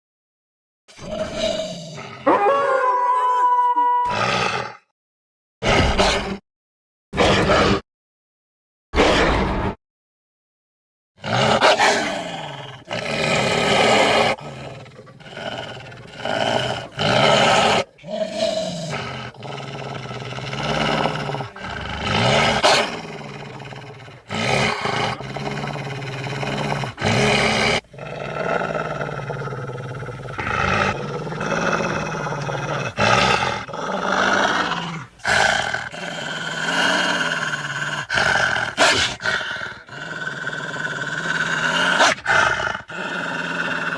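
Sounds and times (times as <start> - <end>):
creature roars and growls: 0.9 - 4.9, 11.2 - 43.9.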